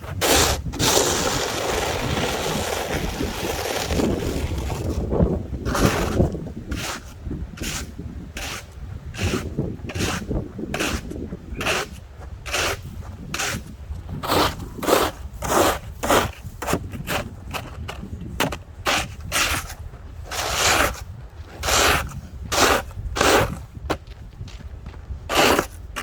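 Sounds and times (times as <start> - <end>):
snow and ice being scraped: 0.0 - 23.6, 25.3 - 26.0.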